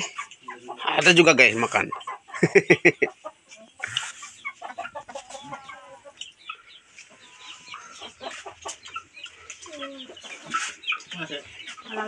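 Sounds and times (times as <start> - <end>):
chicken clucking: 0.0 - 12.0.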